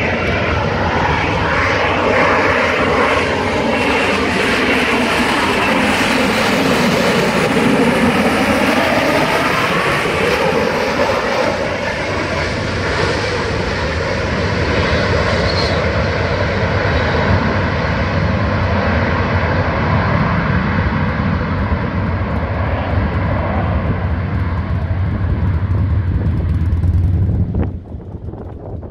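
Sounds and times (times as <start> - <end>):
jet engine running: 0.0 - 28.9.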